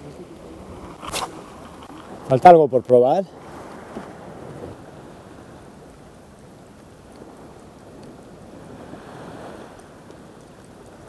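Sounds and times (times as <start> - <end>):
wind on microphone: 0.0 - 2.6, 3.2 - 11.0
sea water lapping: 0.0 - 11.0.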